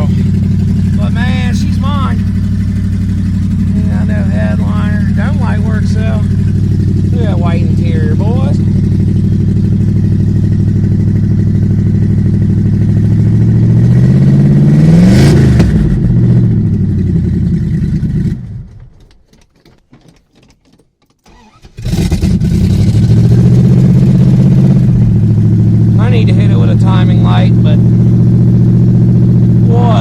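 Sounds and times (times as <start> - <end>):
car engine running rough: 0.0 - 19.1, 21.3 - 30.0.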